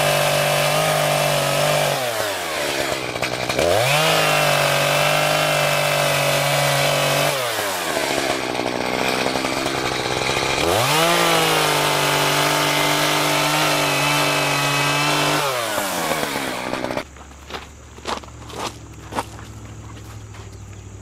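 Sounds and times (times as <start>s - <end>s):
chainsaw revving: 0.0s - 17.1s.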